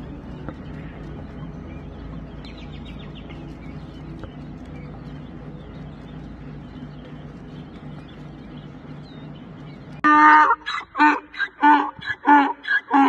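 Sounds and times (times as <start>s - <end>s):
low hum: 0.0s - 12.7s
chicks peeping: 0.0s - 13.0s.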